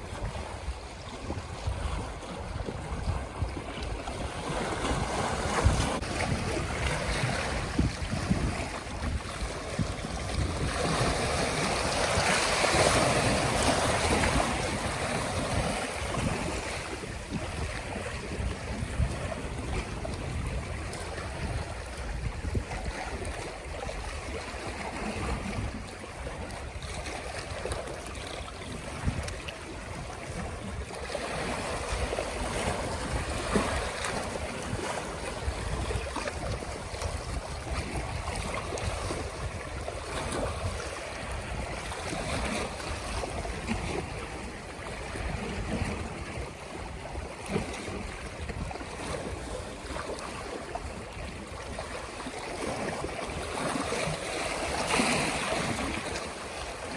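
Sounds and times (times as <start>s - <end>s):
small waves lapping shore: 0.0s - 56.9s
wind gusting on microphone: 0.0s - 56.9s.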